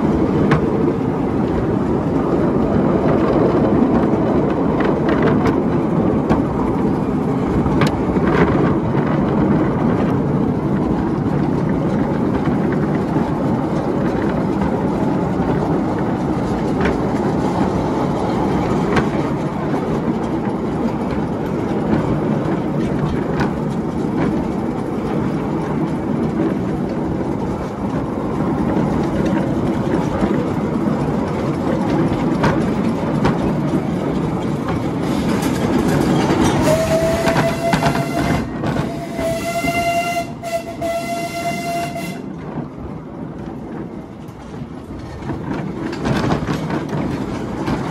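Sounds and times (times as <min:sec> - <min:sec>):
train wheels rumbling on rails: 0:00.0 - 0:47.9
wheels clicking over rail joints: 0:00.0 - 0:47.9.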